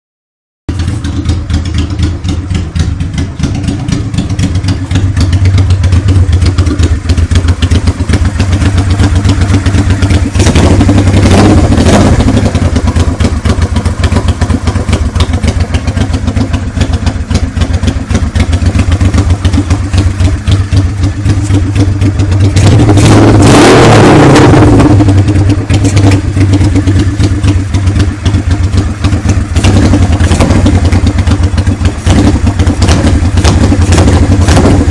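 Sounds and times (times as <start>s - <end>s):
motorcycle engine idling and revving: 0.7s - 34.9s.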